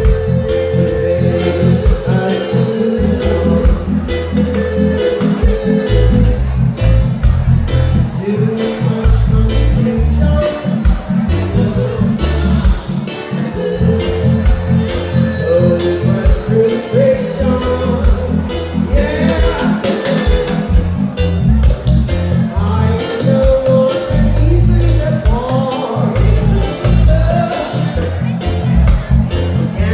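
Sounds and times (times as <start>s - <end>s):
heavy bass line: 0.0s - 29.9s
live latin band music: 0.0s - 29.9s
person singing: 0.0s - 29.9s.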